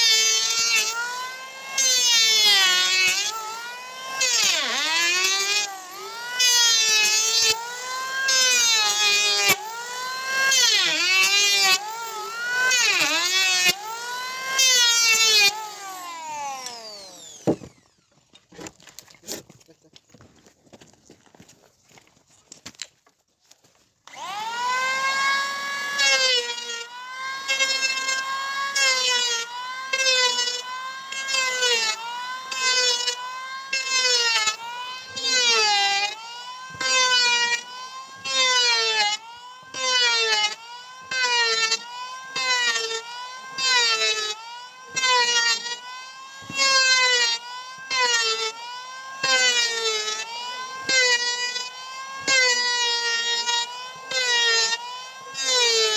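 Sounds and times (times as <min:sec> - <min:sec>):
electric planer motor whine: 0:00.0 - 0:19.2, 0:24.0 - 0:55.9
planer shaving wood: 0:00.0 - 0:55.9.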